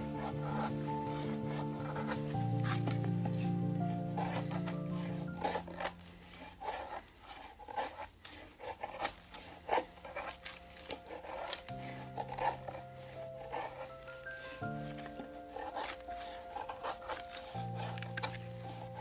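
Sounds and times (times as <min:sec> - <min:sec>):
background music: 0:00.0 - 0:06.9, 0:10.0 - 0:19.0
knife scraping wooden stick: 0:00.0 - 0:19.0.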